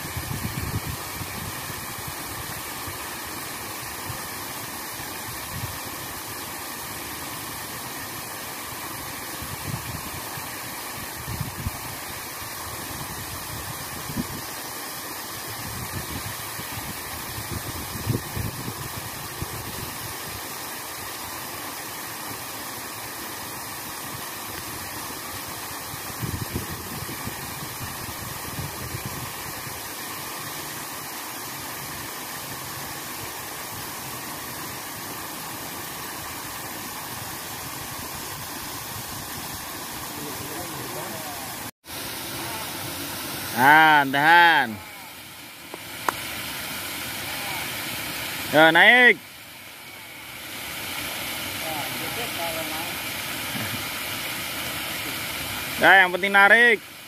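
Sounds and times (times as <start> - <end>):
river water rushing over weir: 0.0 - 57.0.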